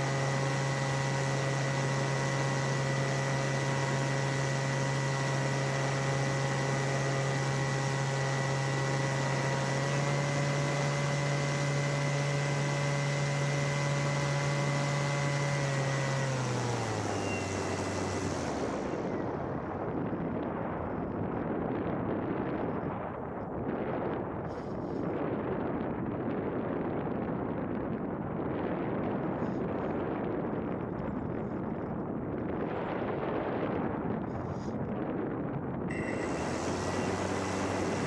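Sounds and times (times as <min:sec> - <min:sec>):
paramotor engine and propeller: 0:00.0 - 0:38.0
wind rushing over microphone: 0:00.0 - 0:38.0.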